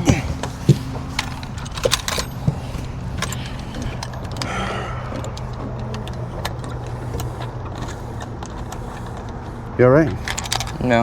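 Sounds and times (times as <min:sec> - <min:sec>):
boat motor humming: 0:00.0 - 0:11.0
sharp metallic clicks: 0:01.2 - 0:11.0.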